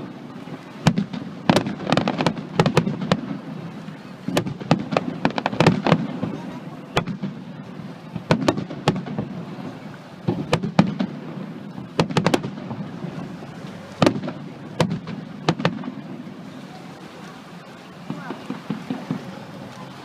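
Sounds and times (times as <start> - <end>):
fireworks bangs: 0.0 - 16.5, 18.0 - 19.9
continuous low rumble: 0.0 - 20.0.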